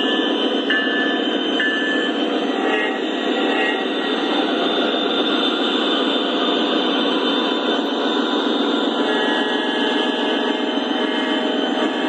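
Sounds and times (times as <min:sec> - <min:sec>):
model train diesel engine sound: 0:00.0 - 0:12.0
model train wheels on track: 0:00.0 - 0:12.0.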